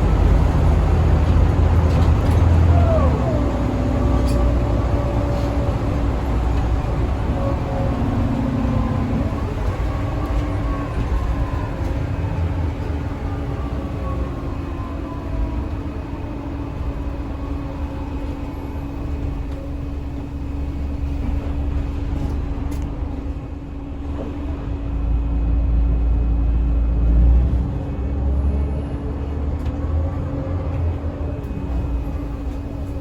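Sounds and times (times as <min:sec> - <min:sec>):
bus engine drone: 0:00.0 - 0:33.0
low rumble: 0:00.0 - 0:33.0.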